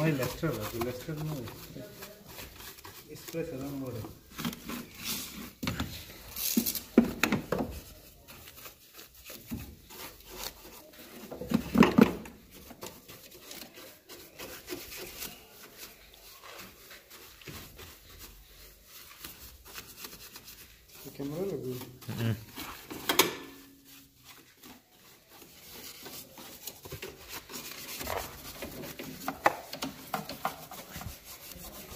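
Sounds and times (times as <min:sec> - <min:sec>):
brush scrubbing: 0:00.0 - 0:23.0, 0:23.6 - 0:31.9.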